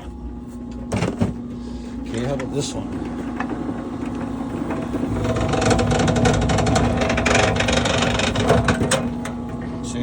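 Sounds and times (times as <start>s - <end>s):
wire stripping machine motor hum: 0.1s - 10.0s.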